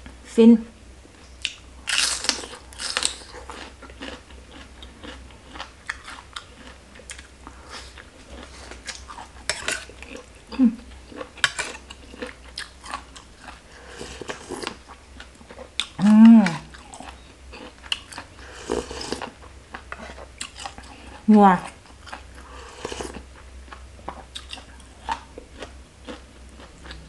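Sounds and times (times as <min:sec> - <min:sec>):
chewing with wet mouth clicks: 0:01.4 - 0:10.3, 0:11.1 - 0:13.6, 0:14.2 - 0:21.2, 0:21.9 - 0:27.0.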